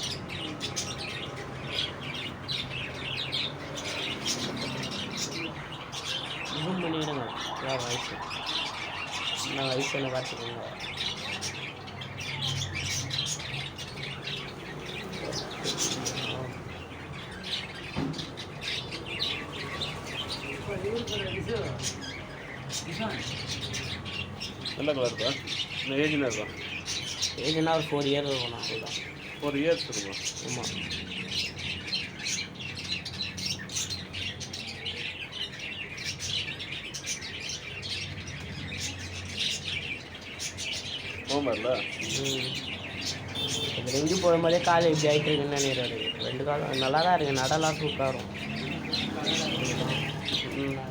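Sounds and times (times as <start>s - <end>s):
caged birds chirping: 0.0s - 50.9s.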